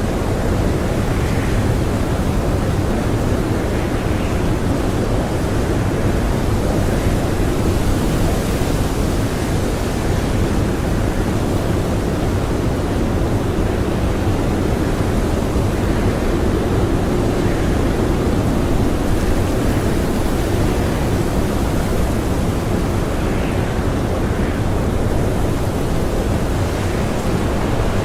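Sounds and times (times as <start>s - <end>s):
strong blizzard wind: 0.0s - 28.0s.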